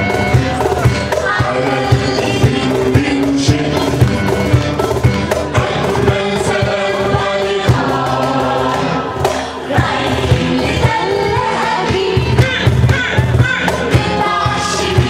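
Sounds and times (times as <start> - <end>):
accompanying instruments: 0.0 - 15.0
hand drum beat: 0.0 - 15.0
voices singing in chorus: 0.0 - 15.0.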